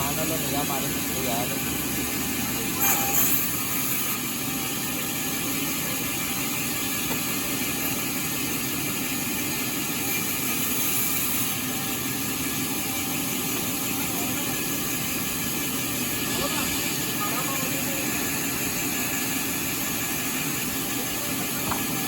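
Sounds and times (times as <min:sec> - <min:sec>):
sawmill machinery motor hum: 0:00.0 - 0:22.0.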